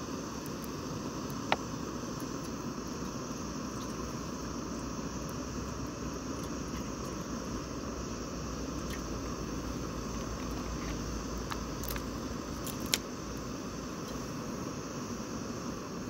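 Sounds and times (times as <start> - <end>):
gas stove hissing: 0.0 - 16.0.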